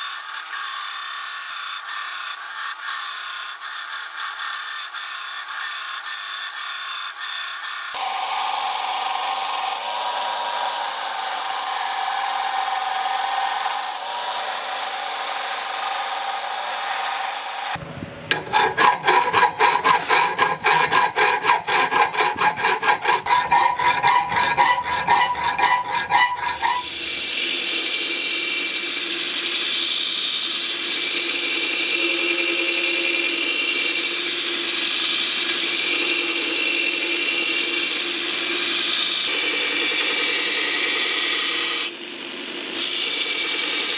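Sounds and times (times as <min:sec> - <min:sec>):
power tool grinding with whine: 0:00.0 - 0:43.9.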